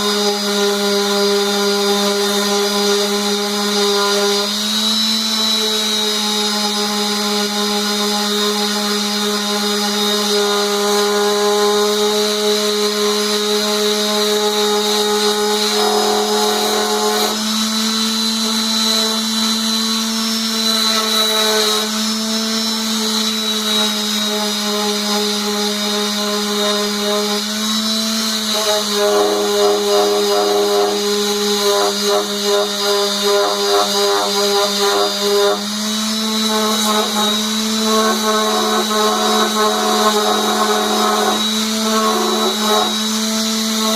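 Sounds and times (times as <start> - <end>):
wood lathe motor hum and whine: 0.0 - 43.9.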